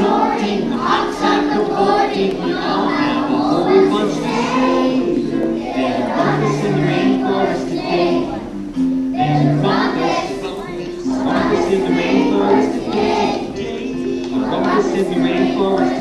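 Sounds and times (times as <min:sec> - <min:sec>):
children's choir singing: 0:00.0 - 0:16.0
musical accompaniment: 0:00.0 - 0:16.0.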